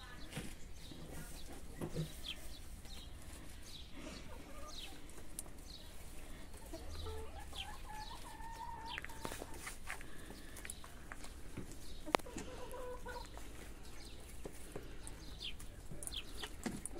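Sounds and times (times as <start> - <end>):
hens clucking: 0.0 - 16.9.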